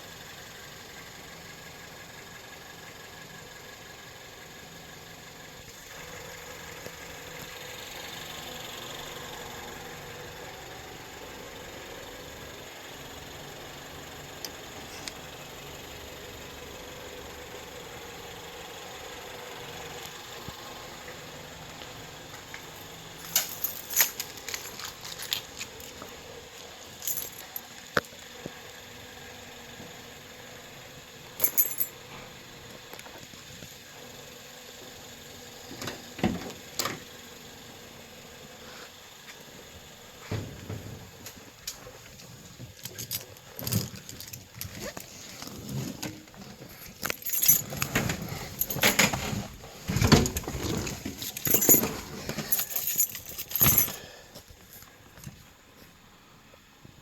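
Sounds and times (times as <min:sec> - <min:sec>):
car engine idling: 0:00.0 - 0:56.8.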